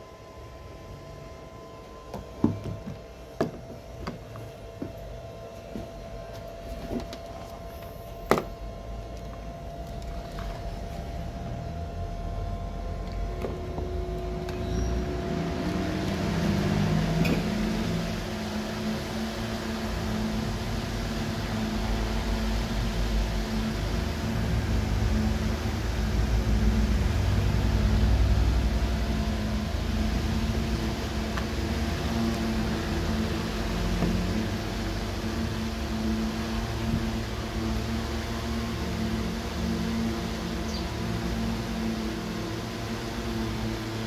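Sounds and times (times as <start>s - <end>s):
electric fan motor hum: 0.0s - 44.0s.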